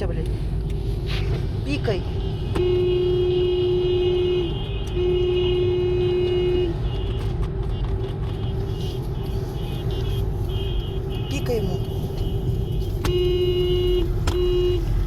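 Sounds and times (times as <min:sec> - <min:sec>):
engine and road noise: 0:00.0 - 0:15.0
car horn blasts: 0:02.2 - 0:15.0.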